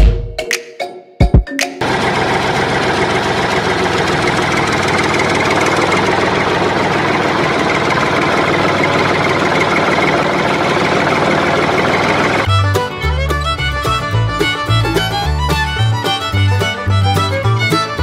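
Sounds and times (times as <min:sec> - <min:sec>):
tractor engine clattering: 0:01.8 - 0:18.0.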